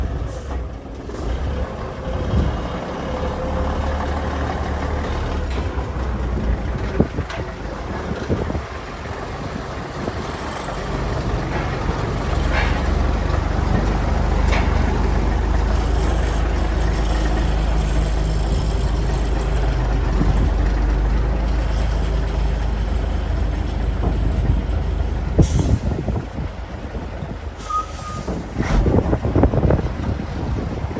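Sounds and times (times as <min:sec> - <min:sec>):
truck diesel engine running: 0:00.0 - 0:30.9.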